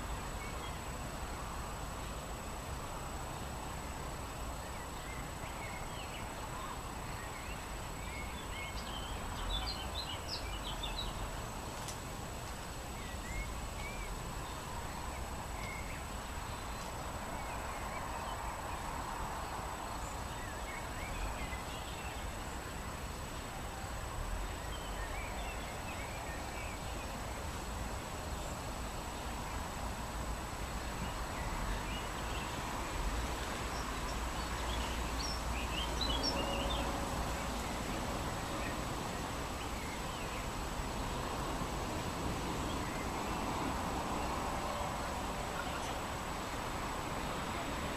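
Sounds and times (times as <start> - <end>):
songbirds chirping: 0.0 - 47.9
wind in tree leaves: 0.0 - 47.9.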